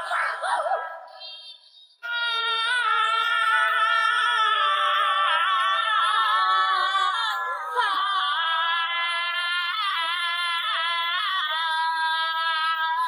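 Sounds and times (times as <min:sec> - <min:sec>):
high singing voice: 0:00.0 - 0:13.0.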